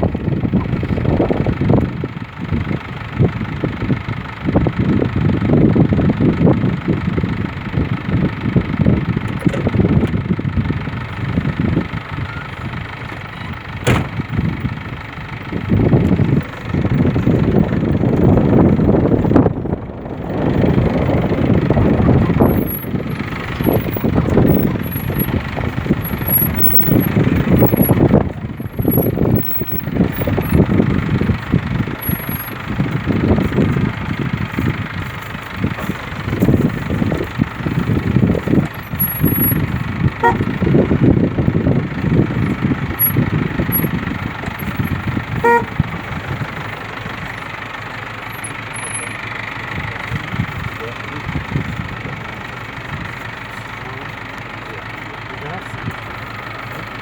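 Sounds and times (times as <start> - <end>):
wind buffeting microphone: 0.0 - 48.7, 49.6 - 53.2.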